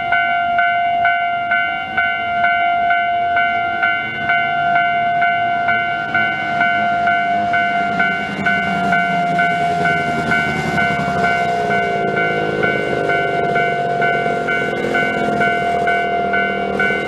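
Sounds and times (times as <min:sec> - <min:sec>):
level crossing warning bell: 0:00.0 - 0:17.0
train rumbling: 0:00.0 - 0:17.0.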